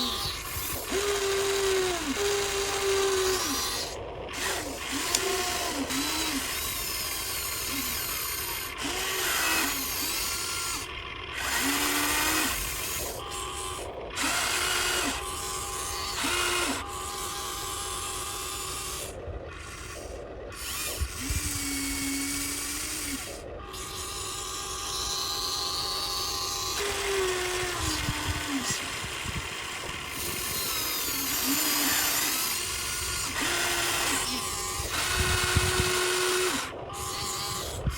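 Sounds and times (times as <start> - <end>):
toy excavator motors whining: 0.0 - 37.9.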